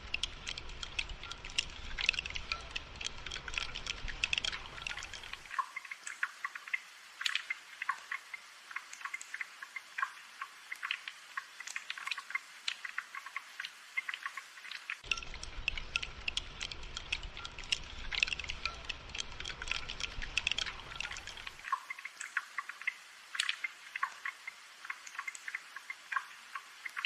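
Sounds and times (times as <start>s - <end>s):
rain drops pattering: 0.0s - 27.0s.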